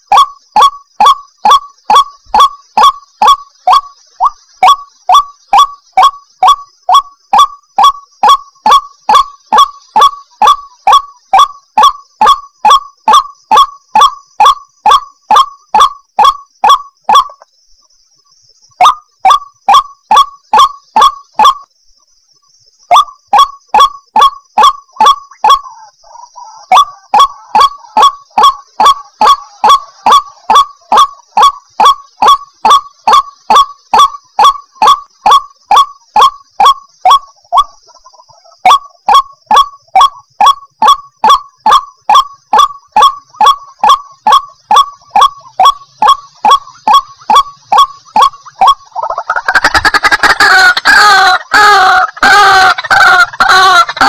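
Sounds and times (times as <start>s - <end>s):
waterhen calling: 0.0s - 17.5s, 22.9s - 54.0s.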